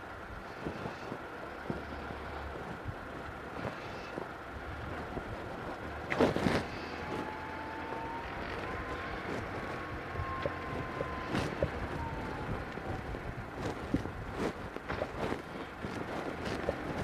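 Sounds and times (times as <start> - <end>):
faint whine: 0.0 - 17.0
vehicle rumble: 0.0 - 17.0.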